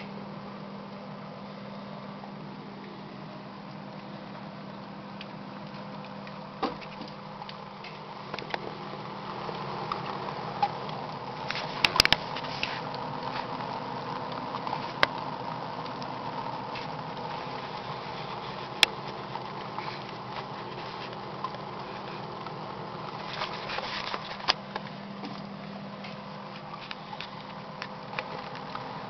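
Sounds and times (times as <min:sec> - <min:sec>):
steady hum: 0:00.0 - 0:29.0
water dripping and pattering: 0:02.7 - 0:29.0.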